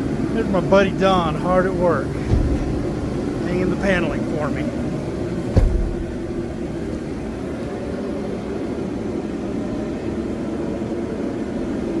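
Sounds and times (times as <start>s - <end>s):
steady low drone: 0.0s - 10.3s.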